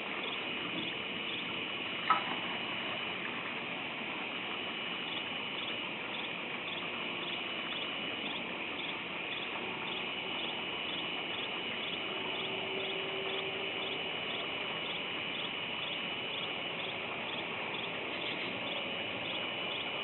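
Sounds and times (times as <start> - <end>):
constant high hum and hiss: 0.0 - 20.0.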